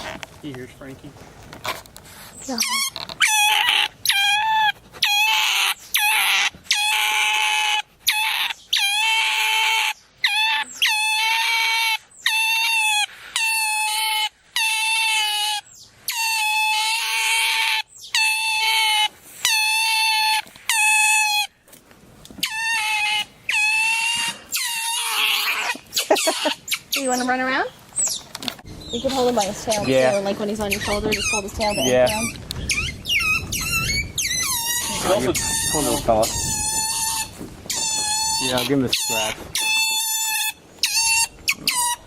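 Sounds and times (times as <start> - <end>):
otter squealing: 2.4 - 21.6, 22.4 - 28.2, 28.9 - 42.0.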